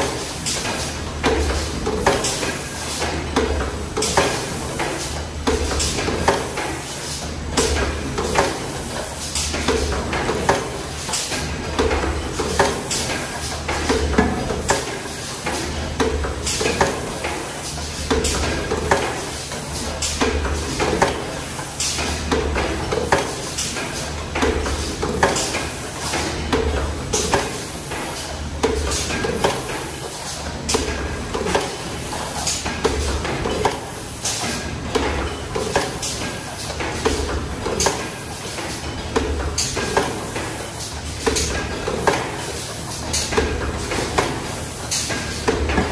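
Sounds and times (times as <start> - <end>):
press stamping clatter: 0.0 - 45.9.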